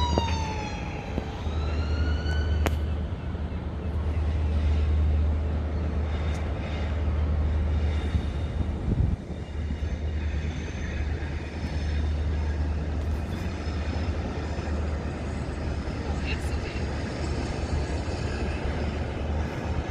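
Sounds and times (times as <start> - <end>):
train rumbling: 0.0 - 19.9.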